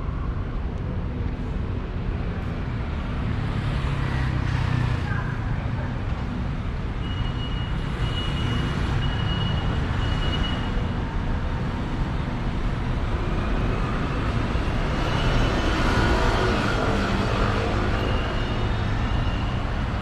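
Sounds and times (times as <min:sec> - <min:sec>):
rumble of passing cars and buses: 0:00.0 - 0:20.0.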